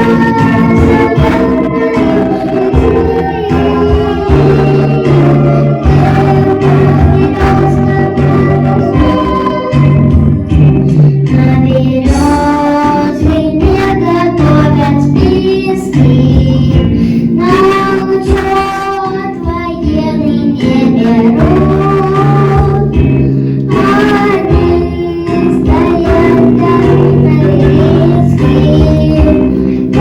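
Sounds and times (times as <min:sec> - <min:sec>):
child singing: 0:00.0 - 0:09.9, 0:11.3 - 0:23.1, 0:23.7 - 0:30.0
instrumental accompaniment: 0:00.0 - 0:30.0.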